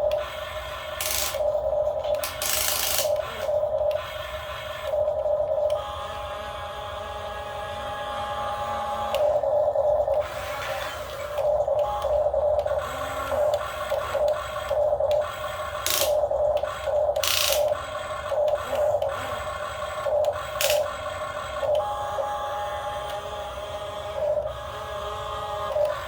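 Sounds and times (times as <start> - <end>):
small electric motors whining: 0.0 - 26.0.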